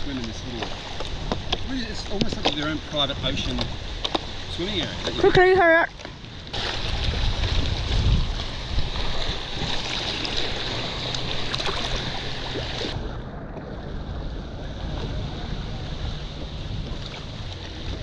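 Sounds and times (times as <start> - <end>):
water lapping around kayak: 0.0 - 18.0
wind buffeting microphone: 0.0 - 18.0.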